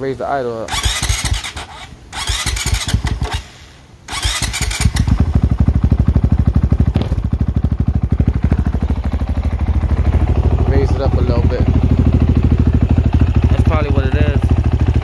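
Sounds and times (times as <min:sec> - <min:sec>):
motorcycle engine revving and idling: 0:00.7 - 0:15.0.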